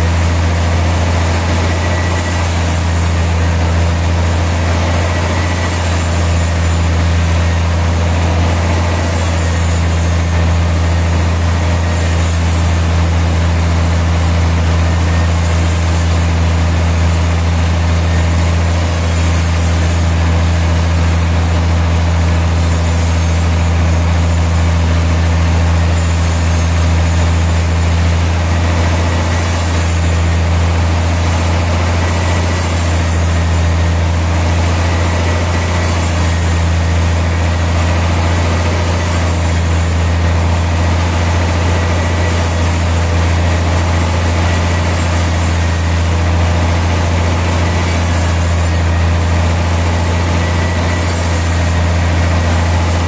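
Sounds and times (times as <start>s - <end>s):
sawmill machinery drone: 0.0s - 53.0s.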